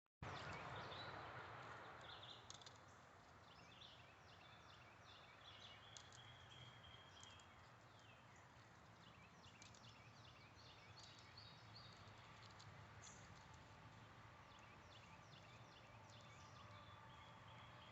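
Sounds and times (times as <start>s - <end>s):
faint birds chirping: 0.2s - 17.9s.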